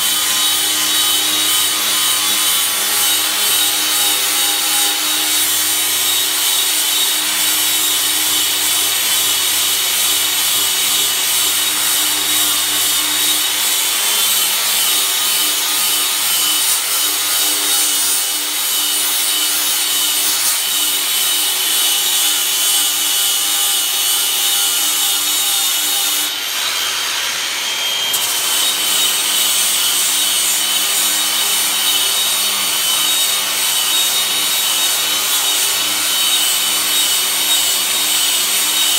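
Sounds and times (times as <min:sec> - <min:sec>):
angle grinder cutting wood: 0:00.0 - 0:38.9.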